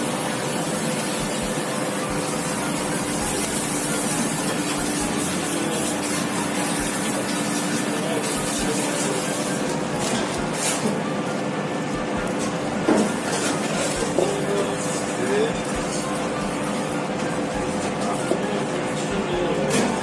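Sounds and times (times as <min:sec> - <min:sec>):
rushing kitchen background noise: 0:00.0 - 0:20.0.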